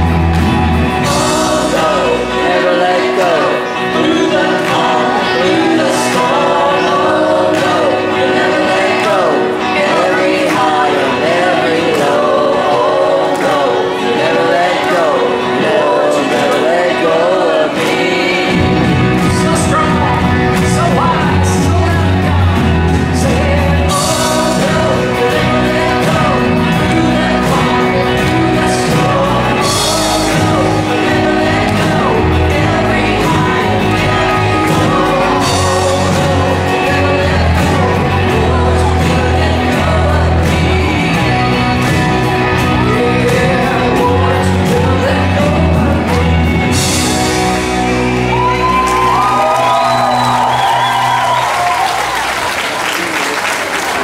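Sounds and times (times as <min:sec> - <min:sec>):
bass line: 0:00.0 - 0:52.6
drums: 0:00.0 - 0:54.0
gospel music with singing: 0:00.0 - 0:54.0.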